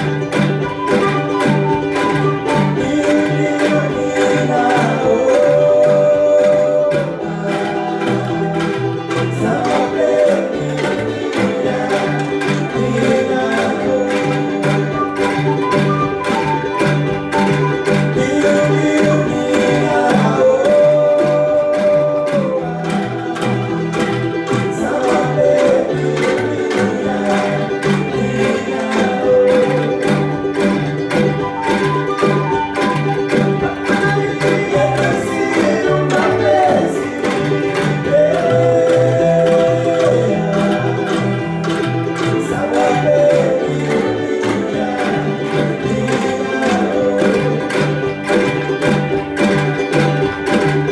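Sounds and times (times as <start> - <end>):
angklung ensemble playing: 0.0 - 50.9.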